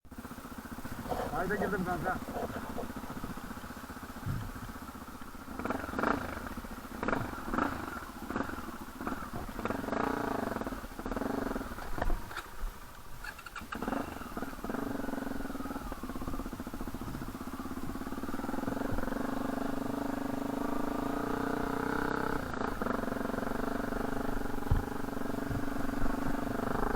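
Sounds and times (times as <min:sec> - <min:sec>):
dirt bike engine revving: 0:00.1 - 0:26.9.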